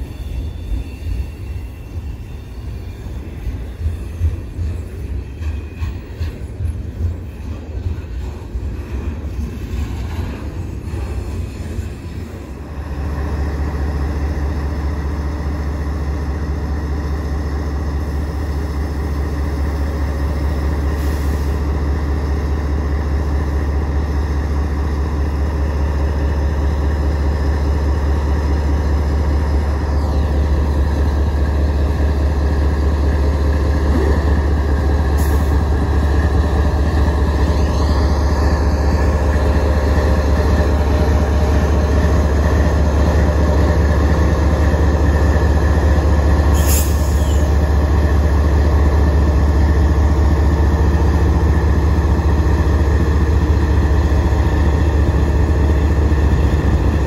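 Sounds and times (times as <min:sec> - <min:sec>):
diesel locomotive engine drone: 0:00.0 - 0:57.0
train clattering on rails: 0:00.0 - 0:57.0.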